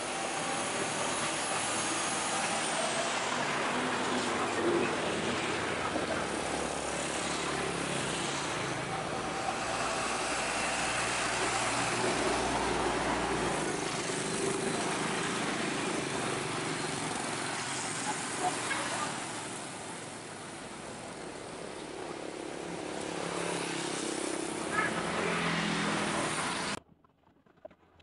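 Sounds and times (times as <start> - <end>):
diesel trucks passing: 0.0 - 26.8
motorcycle traffic: 0.0 - 26.8.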